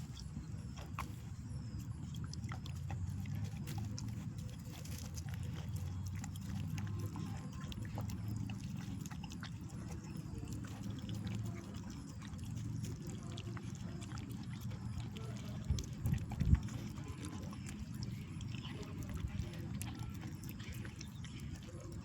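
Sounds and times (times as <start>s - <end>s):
dog chewing: 0.0s - 22.0s
steady low hum: 0.0s - 22.0s.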